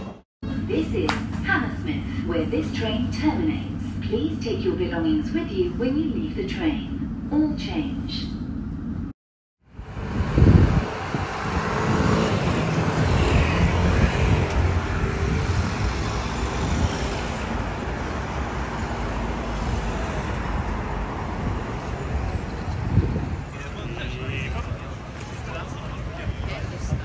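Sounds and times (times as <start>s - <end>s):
city road traffic: 0.0s - 27.0s.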